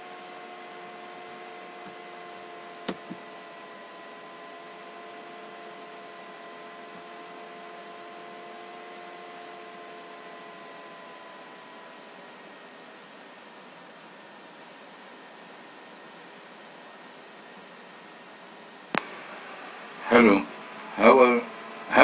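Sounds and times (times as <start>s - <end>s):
constant hiss: 0.0s - 22.0s
electrical hum: 0.0s - 22.0s.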